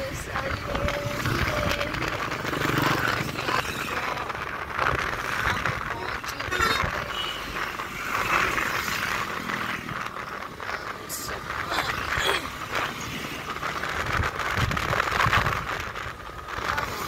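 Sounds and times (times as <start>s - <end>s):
motorcycle wind and road noise: 0.0s - 17.0s.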